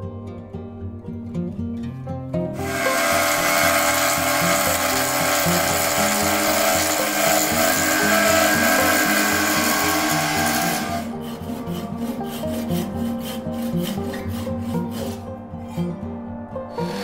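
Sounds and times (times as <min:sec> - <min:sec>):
background music: 0:00.0 - 0:17.0
lathe tool scraping wood: 0:02.6 - 0:16.0, 0:16.7 - 0:17.0.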